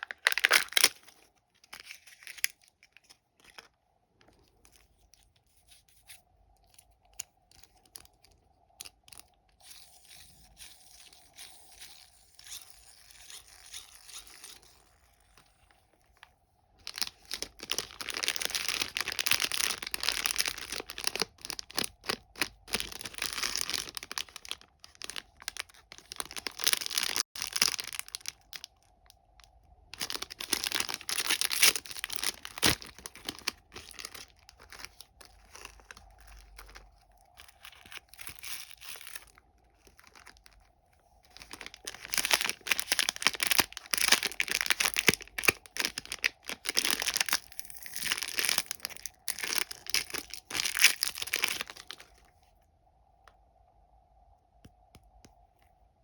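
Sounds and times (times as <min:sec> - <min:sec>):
plastic candy wrappers crinkling: 0:00.0 - 0:05.3, 0:06.6 - 0:52.3.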